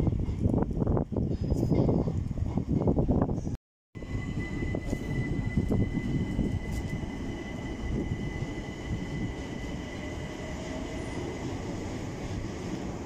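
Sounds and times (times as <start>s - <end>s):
train rumble: 0.0s - 13.0s
high-pitched train whine: 1.2s - 13.0s.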